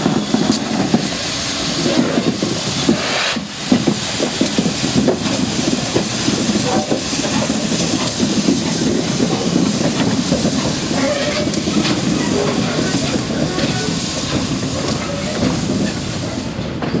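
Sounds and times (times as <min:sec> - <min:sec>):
steam hiss: 0:00.0 - 0:17.0.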